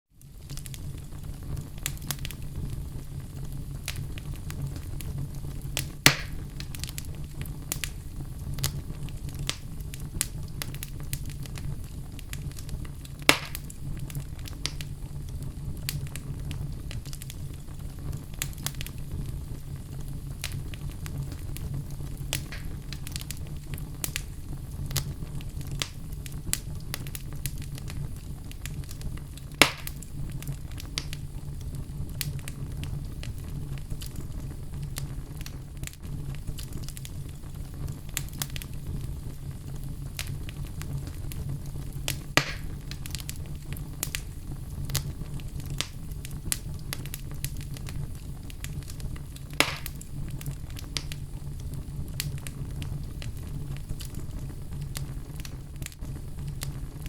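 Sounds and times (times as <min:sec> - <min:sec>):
fire crackling: 0:00.1 - 0:57.0
sharp pops from burning logs: 0:00.2 - 0:57.0.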